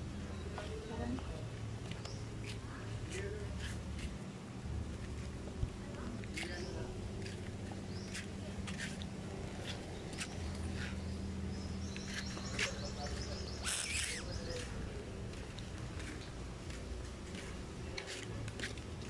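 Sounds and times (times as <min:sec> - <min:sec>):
steady low hum: 0:00.0 - 0:19.0
small birds chirping: 0:00.1 - 0:03.8, 0:06.0 - 0:18.1.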